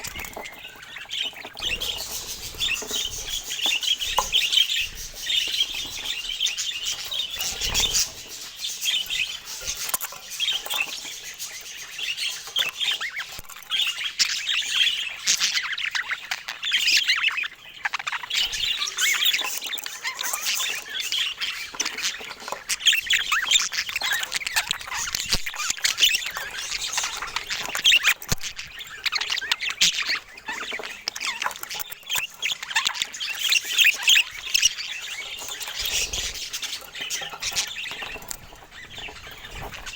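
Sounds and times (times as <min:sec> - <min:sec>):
parakeets chattering: 0:00.0 - 0:39.9.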